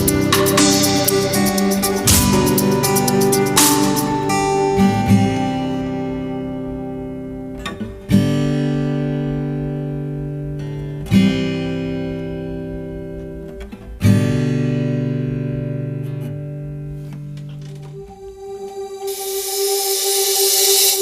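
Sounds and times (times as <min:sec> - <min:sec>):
acoustic guitar strummed chords: 0:00.0 - 0:21.0.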